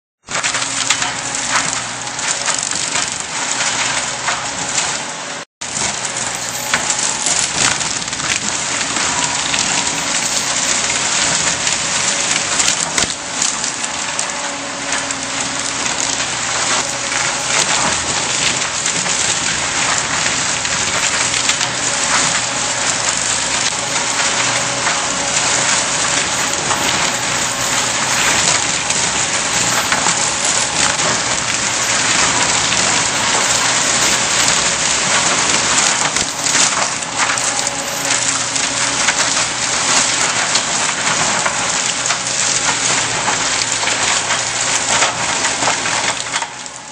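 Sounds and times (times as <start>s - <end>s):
forestry mulcher shredding brush: 0.2s - 46.9s
faint engine drone: 0.5s - 46.9s.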